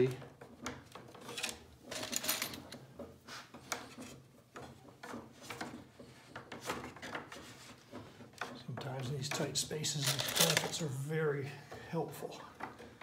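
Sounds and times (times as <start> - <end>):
wood rubbing and scraping on wood: 0.0 - 13.0.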